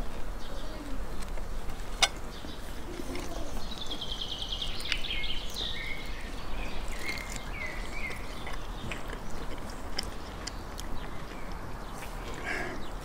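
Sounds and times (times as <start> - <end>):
background noise: 0.0 - 13.0
songbird trilling and chirping: 2.1 - 13.0.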